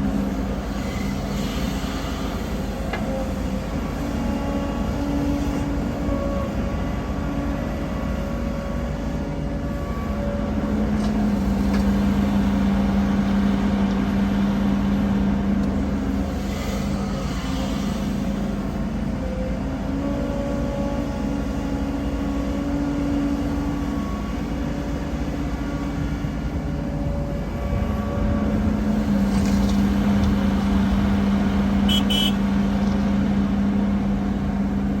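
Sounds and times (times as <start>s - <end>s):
heavy machinery diesel engines: 0.0s - 35.0s.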